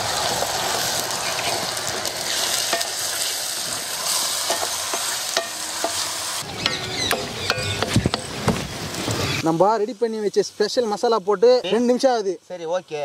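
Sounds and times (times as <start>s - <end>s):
paste and onions sizzling in oil: 0.0s - 13.0s.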